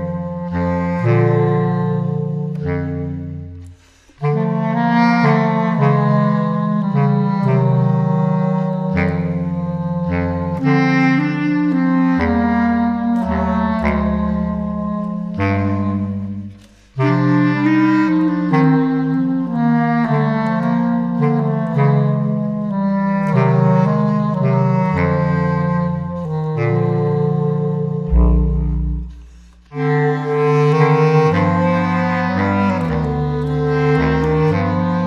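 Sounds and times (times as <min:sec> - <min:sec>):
bass clarinets playing jazz ballad: 0:00.0 - 0:35.0.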